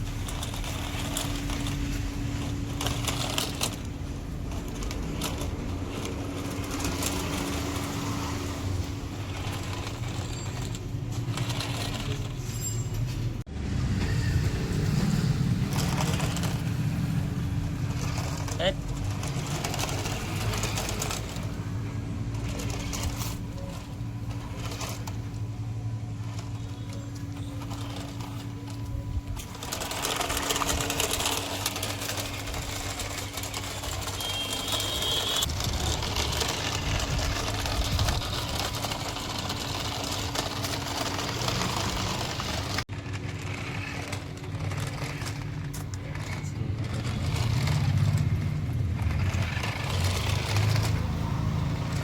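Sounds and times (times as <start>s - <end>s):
toy motor and gears whirring: 0.0s - 52.0s.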